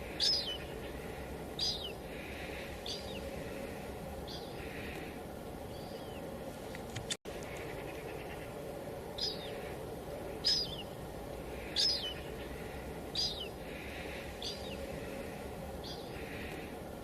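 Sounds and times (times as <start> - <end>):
bird chirping: 0.0 - 6.3, 7.3 - 16.7
light rain hiss: 0.0 - 17.0.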